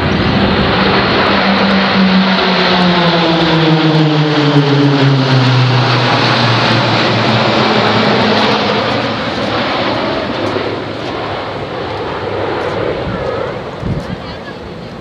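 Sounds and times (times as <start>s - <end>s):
propeller planes flying overhead: 0.0s - 15.0s.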